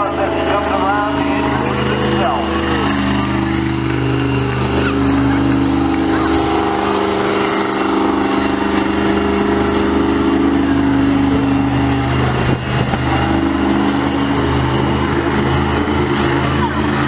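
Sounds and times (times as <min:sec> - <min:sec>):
large vehicle engine running: 0:00.0 - 0:17.0.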